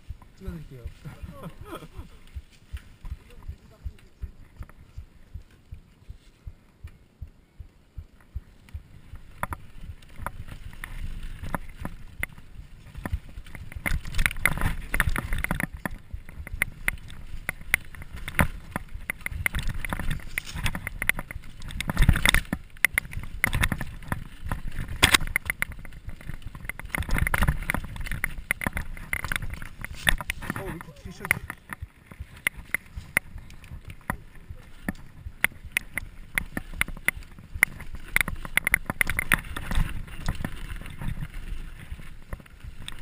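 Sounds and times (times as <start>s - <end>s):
bike rattling and knocking: 0.0s - 43.0s
bike tyres rumbling over dirt: 0.0s - 43.0s.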